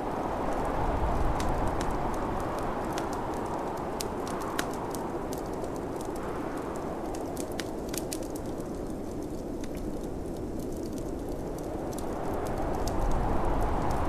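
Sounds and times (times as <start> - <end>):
snowstorm wind rushing: 0.0 - 14.0
wood fire crackling and popping: 0.0 - 14.0.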